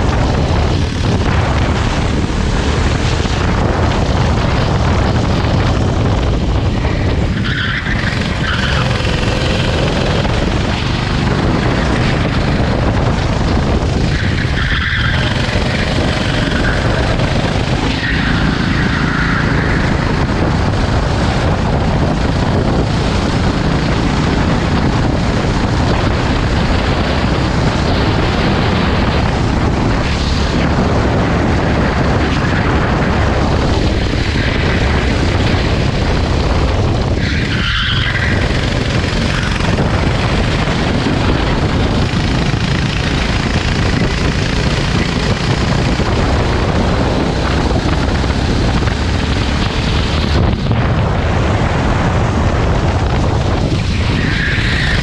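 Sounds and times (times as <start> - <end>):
go-kart engine running hard: 0.0 - 55.0
loud rushing noise: 0.0 - 55.0.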